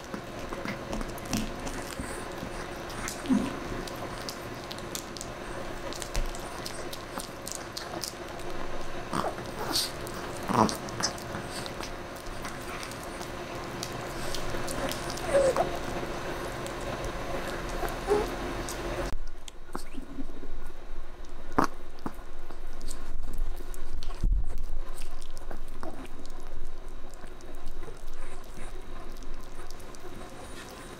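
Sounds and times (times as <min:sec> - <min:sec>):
dog chewing bone: 0:00.0 - 0:18.9, 0:21.5 - 0:30.9.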